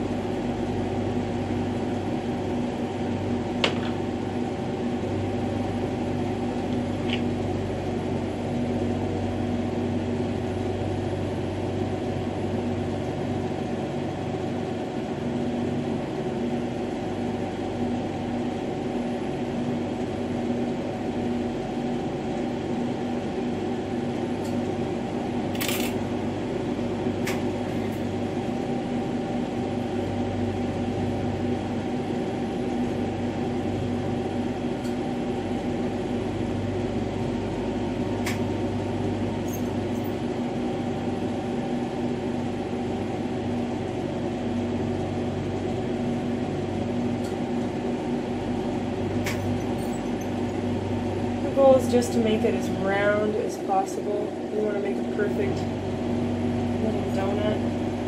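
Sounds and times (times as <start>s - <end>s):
ventilation fan running: 0.0s - 58.0s.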